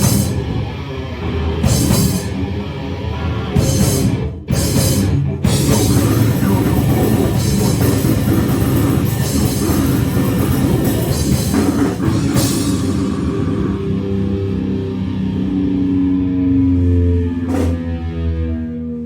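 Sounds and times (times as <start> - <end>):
distorted heavy rock music: 0.0 - 19.0.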